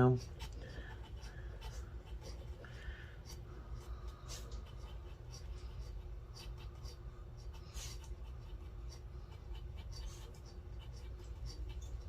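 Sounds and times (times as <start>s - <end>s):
pencil scratching on paper: 0.0s - 12.0s
steady low hum: 0.0s - 12.0s.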